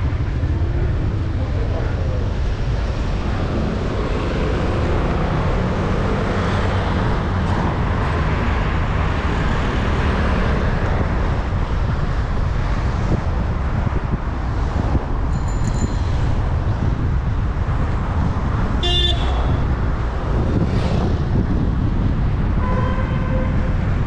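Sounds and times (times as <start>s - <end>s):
street traffic: 0.0s - 24.0s
wind rumble on microphone: 0.0s - 24.0s.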